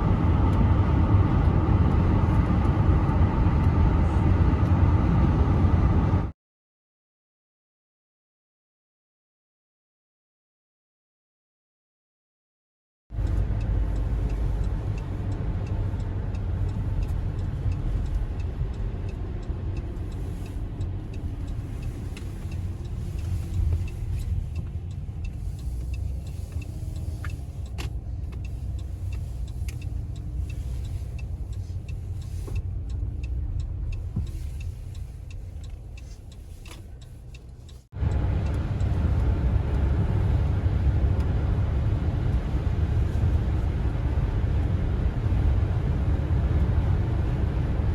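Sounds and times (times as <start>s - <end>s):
road and tyre noise inside car: 0.0s - 6.4s, 13.1s - 47.9s.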